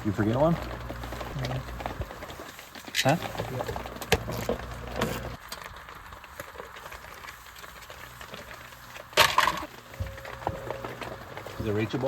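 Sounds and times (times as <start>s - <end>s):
sharp crackling clatter: 0.0s - 12.0s.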